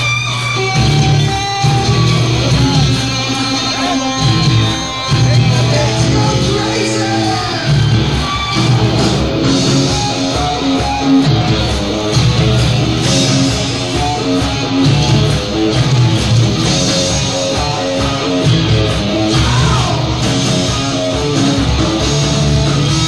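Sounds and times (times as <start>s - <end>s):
bass guitar: 0.0s - 23.0s
distorted electric guitar runs: 0.0s - 23.0s
drums: 0.0s - 23.0s.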